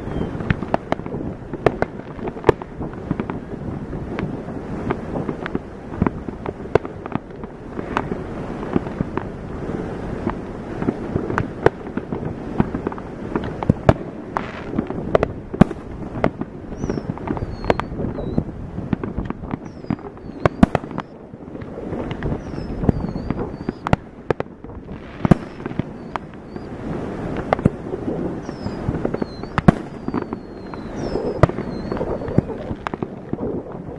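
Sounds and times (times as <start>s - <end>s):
distant fireworks crackling: 0.0s - 33.9s
firework bangs: 0.0s - 33.9s.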